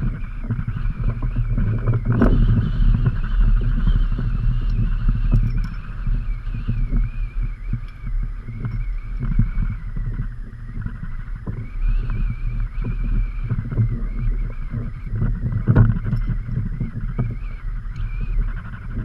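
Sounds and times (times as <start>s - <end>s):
faint wavering high whistle: 0.0s - 15.2s, 17.2s - 19.0s
wind buffeting microphone: 0.0s - 19.0s.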